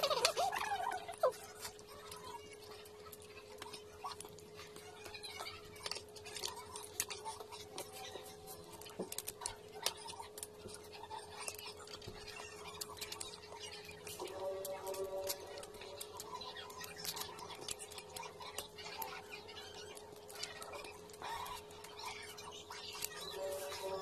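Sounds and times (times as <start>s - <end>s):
faint hum: 0.0s - 24.0s
wet chewing: 0.0s - 24.0s.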